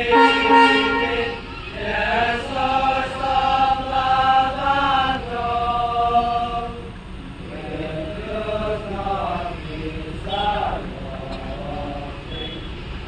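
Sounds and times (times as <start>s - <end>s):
voices singing devotional chant: 0.0s - 13.0s.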